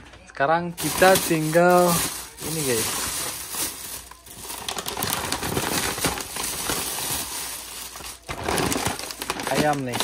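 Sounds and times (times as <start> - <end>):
plastic bag rustling: 0.7 - 10.0.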